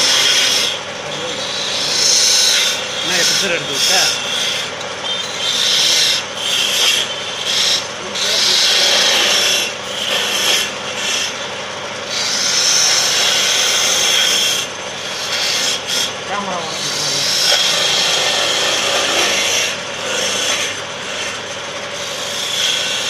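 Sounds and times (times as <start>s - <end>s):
chisel scraping wood on lathe: 0.0s - 23.0s.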